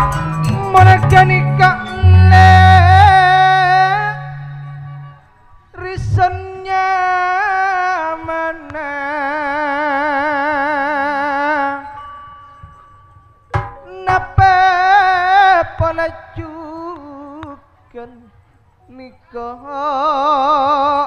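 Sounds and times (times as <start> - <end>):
person singing with vibrato: 0.0 - 12.5, 13.6 - 21.0.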